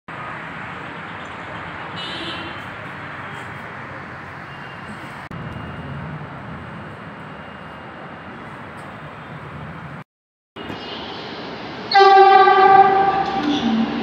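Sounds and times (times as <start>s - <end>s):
street traffic hum: 0.1s - 14.0s.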